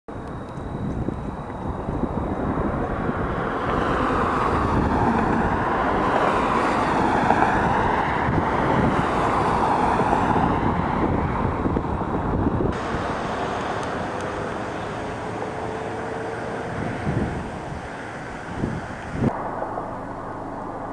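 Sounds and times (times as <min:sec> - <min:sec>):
vehicle passing: 0:02.0 - 0:20.9.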